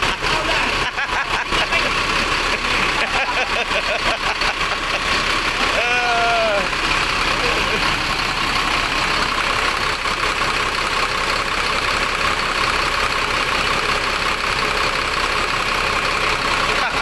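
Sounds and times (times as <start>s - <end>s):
bus diesel engine idling: 0.0s - 17.0s.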